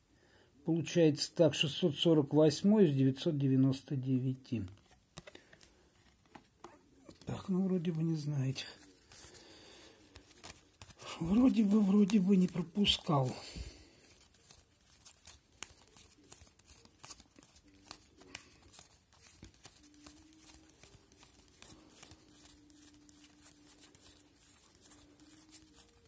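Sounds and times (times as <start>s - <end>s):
trading cards being thumbed through: 4.6s - 26.0s.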